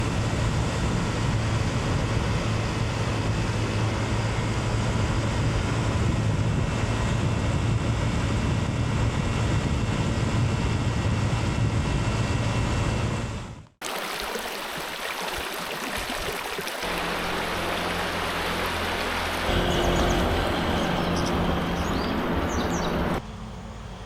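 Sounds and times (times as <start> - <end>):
scooter engine drone: 0.0 - 13.6, 16.8 - 24.0
wind and road noise: 0.0 - 24.0.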